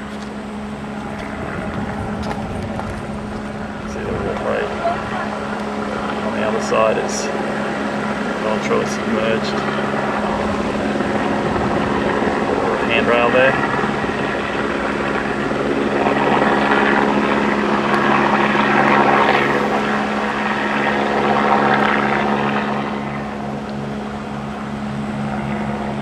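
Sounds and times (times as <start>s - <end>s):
engine drone: 0.0s - 26.0s
noisy rush: 0.0s - 26.0s.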